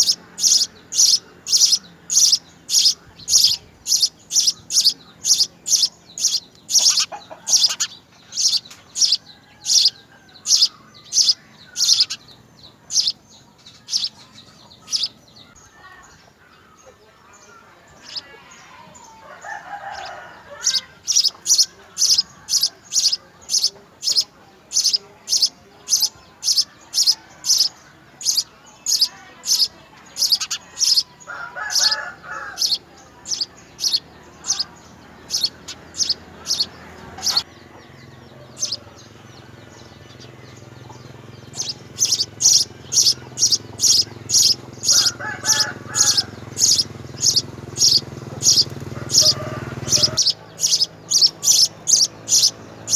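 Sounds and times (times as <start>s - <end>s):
small bird chirping: 0.0s - 52.9s.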